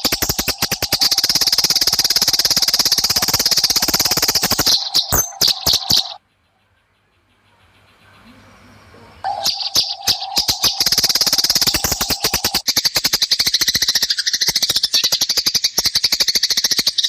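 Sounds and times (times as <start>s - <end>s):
sparrows chattering: 0.0s - 17.0s.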